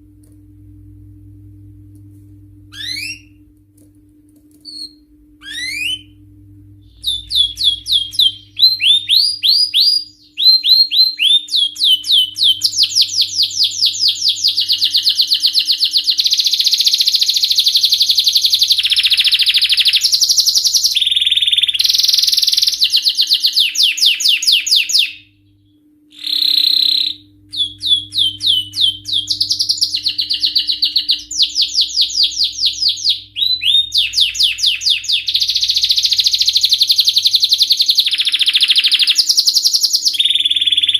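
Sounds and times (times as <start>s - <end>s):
canary singing trills: 2.7s - 3.4s, 4.6s - 6.2s, 6.9s - 25.3s, 26.1s - 40.9s.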